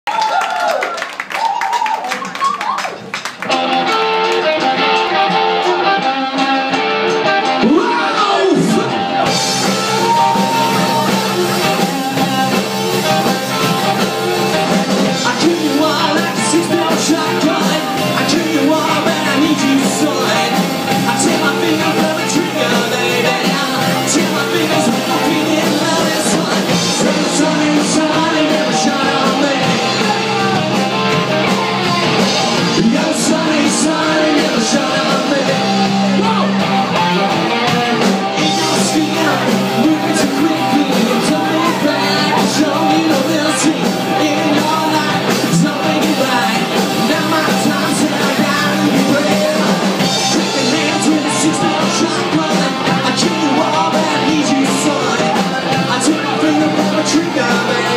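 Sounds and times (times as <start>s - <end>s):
rock band playing live: 2.1s - 57.9s
person singing or yelling: 7.4s - 36.8s, 37.6s - 57.9s.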